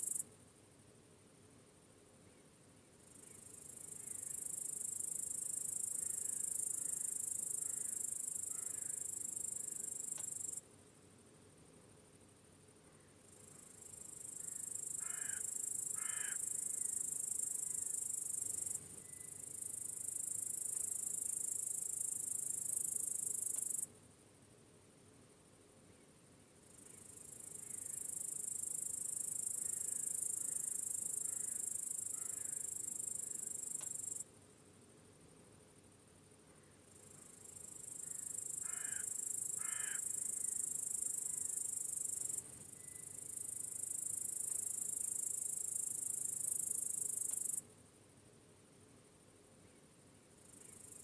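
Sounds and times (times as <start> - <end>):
crickets chirping: 0.0 - 0.8, 2.8 - 10.7, 12.0 - 24.3, 25.6 - 51.0.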